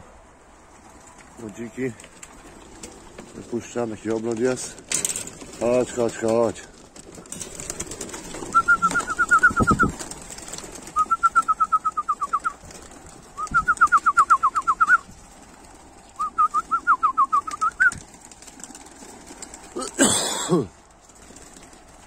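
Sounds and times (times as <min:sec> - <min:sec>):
pigeon wings clapping: 0:00.7 - 0:22.0.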